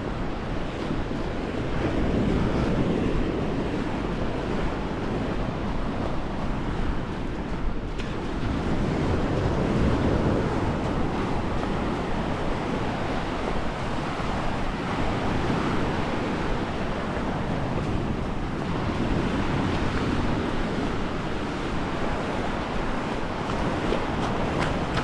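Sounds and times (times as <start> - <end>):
sea surf washing on shore: 0.0 - 25.0
wind buffeting microphone: 0.0 - 25.0.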